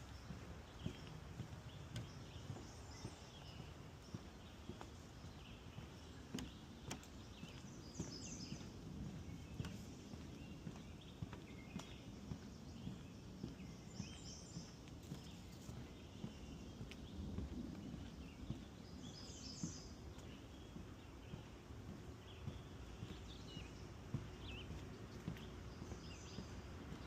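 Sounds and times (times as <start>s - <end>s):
footsteps on wooden boardwalk: 0.0s - 27.0s
songbirds chirping: 0.0s - 27.0s.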